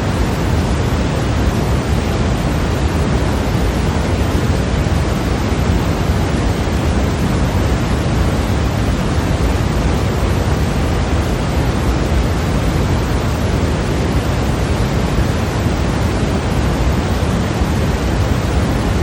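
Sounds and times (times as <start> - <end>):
steady white noise hiss: 0.0 - 19.0.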